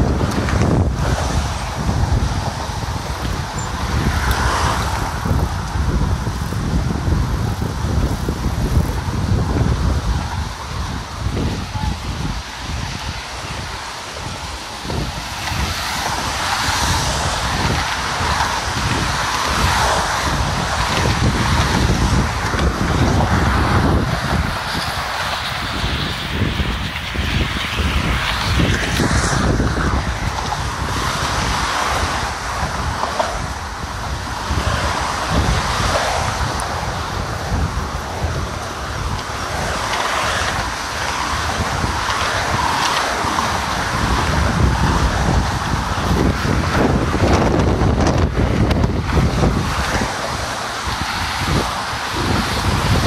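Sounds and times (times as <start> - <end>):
road traffic passing: 0.0 - 53.0
wind buffeting microphone: 0.0 - 53.0.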